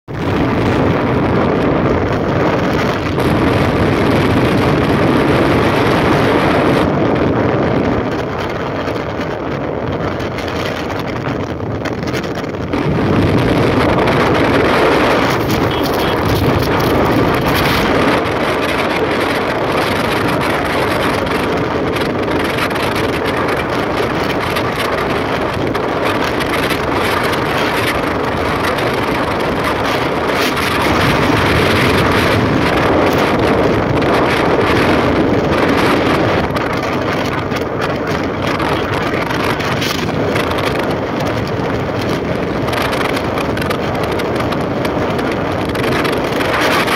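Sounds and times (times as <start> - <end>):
car road noise at speed: 0.0 - 46.9
wind rushing against microphone: 0.0 - 46.9.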